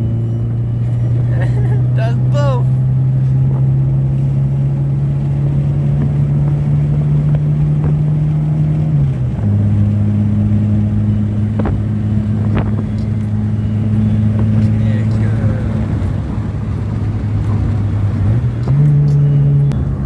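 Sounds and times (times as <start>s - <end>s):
car engine and exhaust drone: 0.0s - 20.0s.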